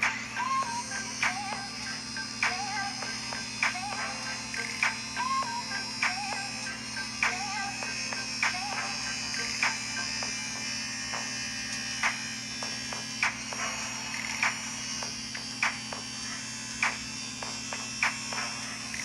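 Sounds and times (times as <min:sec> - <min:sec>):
power tool cutting metal: 0:00.0 - 0:19.0.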